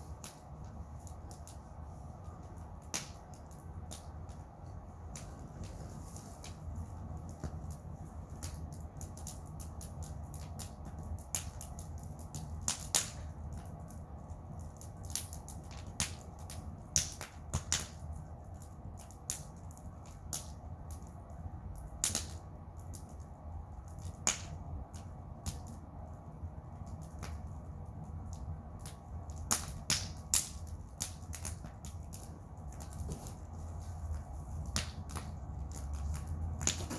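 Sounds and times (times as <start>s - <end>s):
bonfire crackling and popping: 0.0s - 36.9s.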